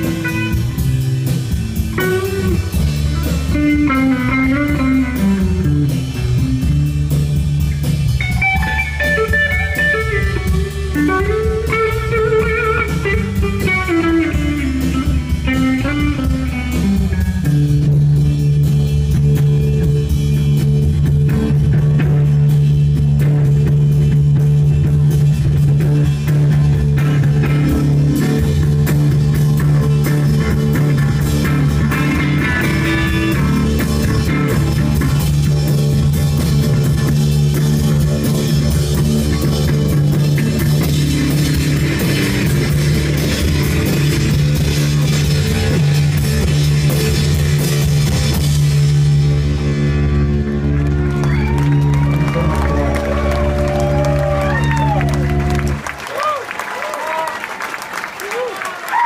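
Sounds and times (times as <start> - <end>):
electric guitar: 0.0 - 57.3
drum kit: 0.0 - 59.0
rock band playing live: 0.0 - 59.0.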